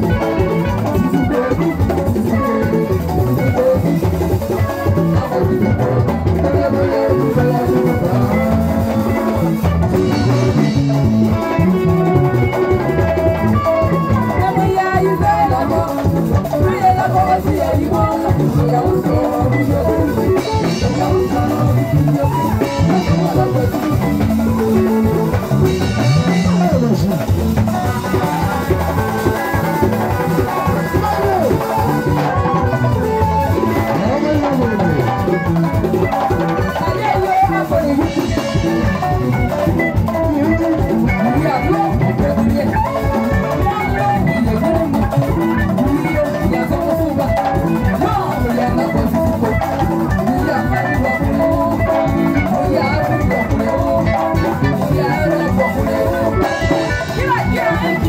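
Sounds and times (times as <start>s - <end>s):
live band music: 0.0s - 58.0s
woman singing: 0.0s - 58.0s.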